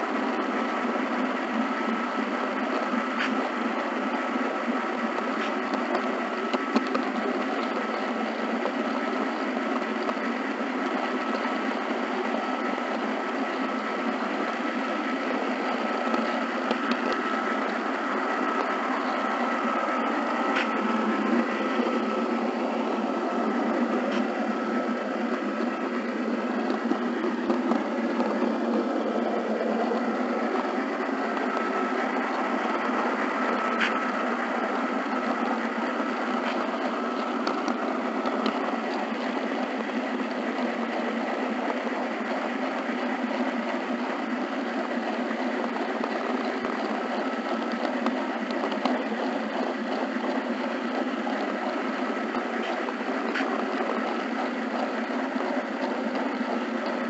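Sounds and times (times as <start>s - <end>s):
model train motor whirring: 0.0s - 57.0s
thin steady whine: 0.0s - 57.0s.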